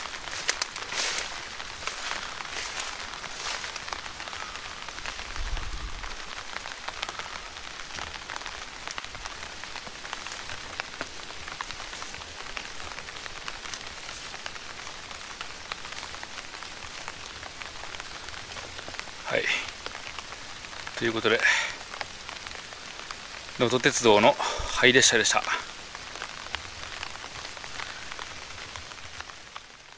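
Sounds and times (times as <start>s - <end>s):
rain falling: 0.0s - 29.9s.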